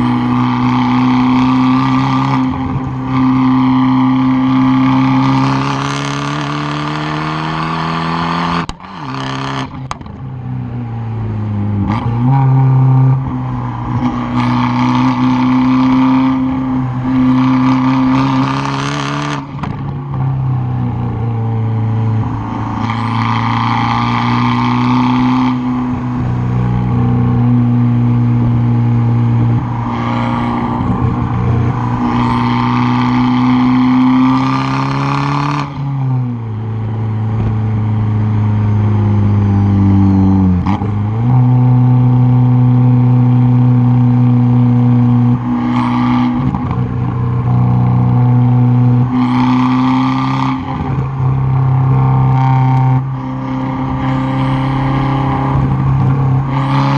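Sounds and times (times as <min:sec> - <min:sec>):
car engine driven hard: 0:00.0 - 0:56.9.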